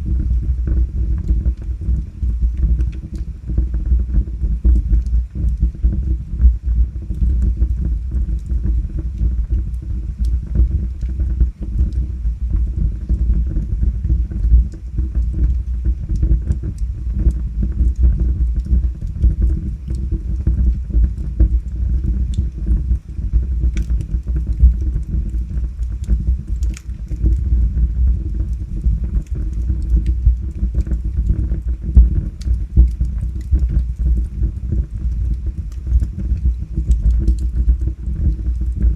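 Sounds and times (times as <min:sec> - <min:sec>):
fire rumbling: 0:00.0 - 0:38.9
logs crackling and popping: 0:00.0 - 0:38.9.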